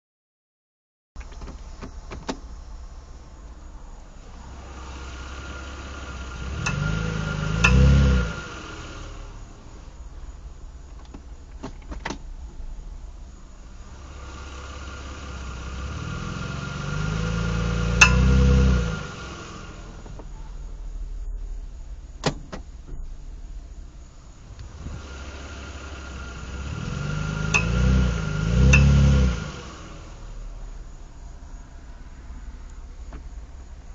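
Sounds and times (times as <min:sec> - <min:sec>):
car engine running: 0:01.2 - 0:33.9
sharp clicking from axle: 0:04.5 - 0:31.3, 0:32.3 - 0:33.9.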